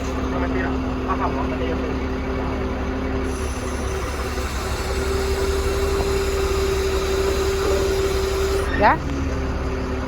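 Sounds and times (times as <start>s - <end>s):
hydraulic whine: 0.0s - 10.0s
truck engine running: 0.0s - 10.0s.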